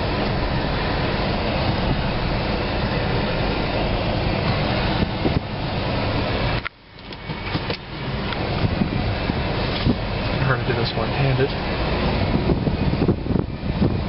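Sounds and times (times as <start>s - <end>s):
car cabin road noise: 0.0s - 14.0s.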